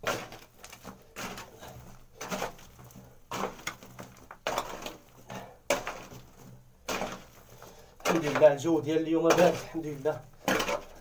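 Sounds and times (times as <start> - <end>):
metal tool chopping stony earth: 0.0 - 11.0
soil scattering: 0.0 - 11.0.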